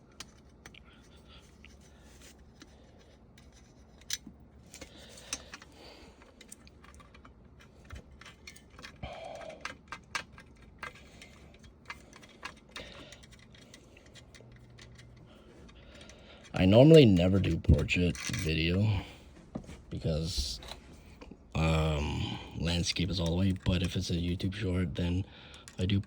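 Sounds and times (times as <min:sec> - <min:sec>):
small parts clicking and clattering: 0:00.0 - 0:19.1, 0:22.7 - 0:26.0.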